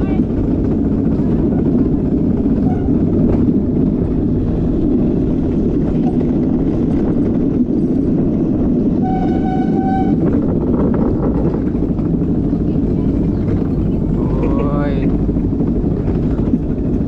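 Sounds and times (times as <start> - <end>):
cart wheels rumbling on concrete: 0.0 - 17.0.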